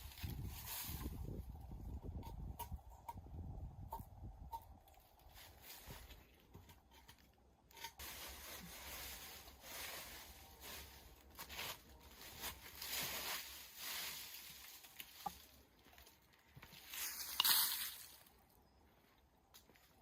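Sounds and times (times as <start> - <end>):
rustling and scraping: 0.0 - 3.2, 4.8 - 18.4.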